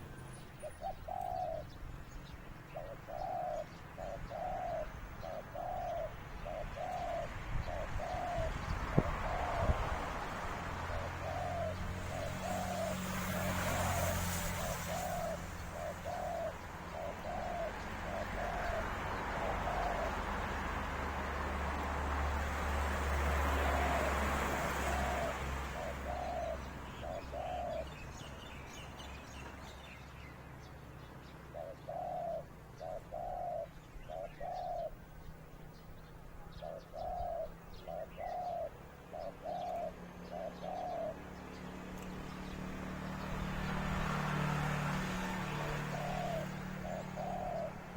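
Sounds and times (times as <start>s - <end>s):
dove cooing: 0.0s - 1.8s, 2.7s - 21.5s, 23.2s - 28.0s, 31.5s - 35.2s, 36.3s - 41.4s, 42.0s - 47.9s.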